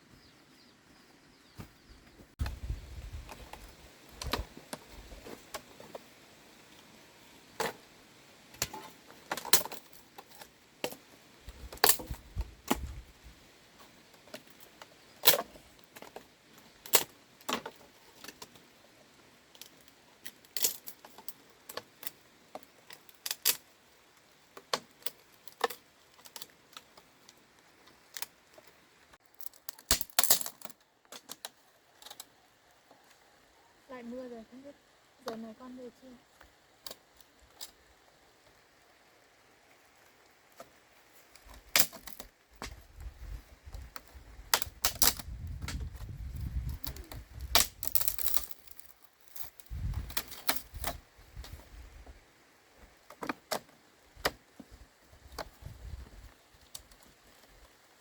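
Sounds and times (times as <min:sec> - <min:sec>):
clicks and clacks of bamboo: 0:03.2 - 0:06.1, 0:07.6 - 0:07.9, 0:08.5 - 0:13.0, 0:13.7 - 0:33.4, 0:35.2 - 0:35.5, 0:36.3 - 0:38.6, 0:40.5 - 0:52.2, 0:52.8 - 0:57.8.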